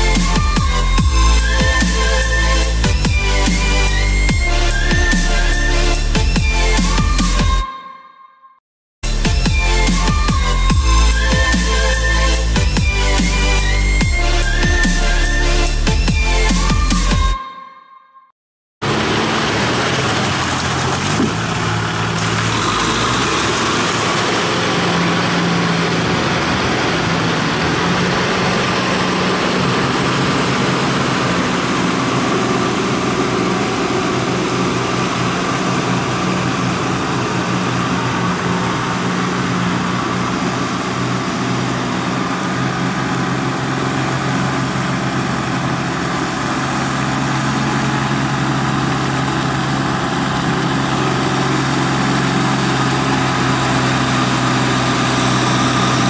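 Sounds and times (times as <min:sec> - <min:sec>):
diesel tractor engine running: 0:00.0 - 0:07.6, 0:09.0 - 0:17.4, 0:18.8 - 0:56.0.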